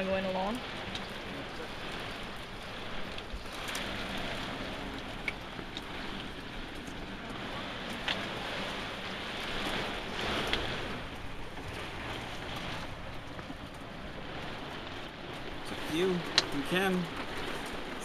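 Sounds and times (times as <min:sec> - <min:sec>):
drops or hailstones ticking: 0:00.0 - 0:18.0
heavy rain pouring: 0:00.0 - 0:18.0.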